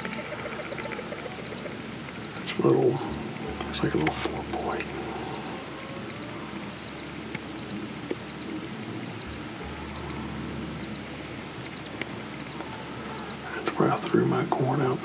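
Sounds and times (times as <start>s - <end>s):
faint high bird chirps: 0.0s - 3.6s, 4.6s - 13.6s
steady hiss: 0.0s - 15.0s.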